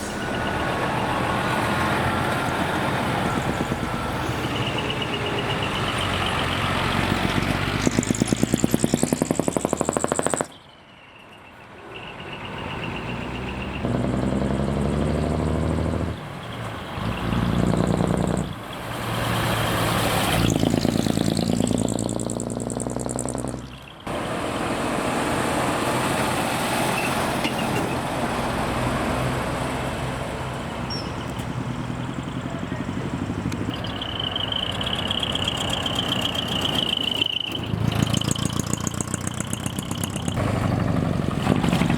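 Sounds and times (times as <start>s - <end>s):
diesel trucks revving: 0.0s - 41.9s.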